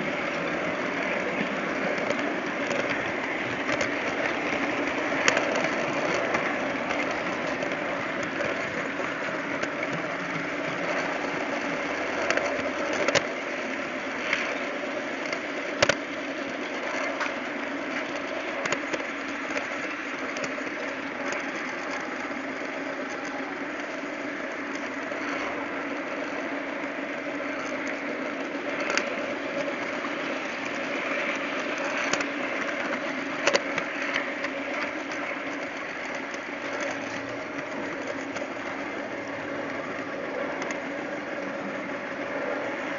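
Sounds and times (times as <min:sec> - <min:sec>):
model train whirring on rails: 0:00.0 - 0:42.9.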